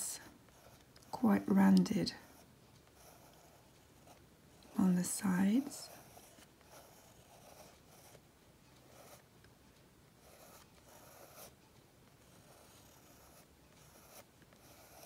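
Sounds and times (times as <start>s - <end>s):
pencil scratching on paper: 0.0s - 9.3s, 10.2s - 15.0s.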